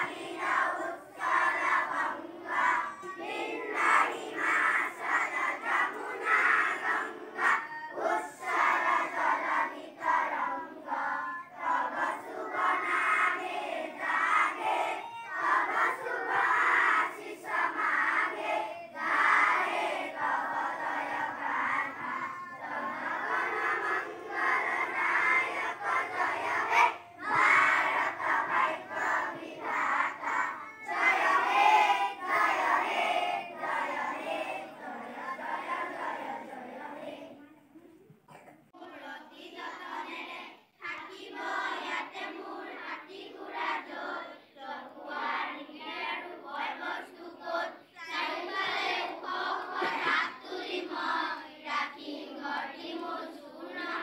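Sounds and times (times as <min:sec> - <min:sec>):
children chanting in unison: 0:00.0 - 0:37.6, 0:38.3 - 0:54.0.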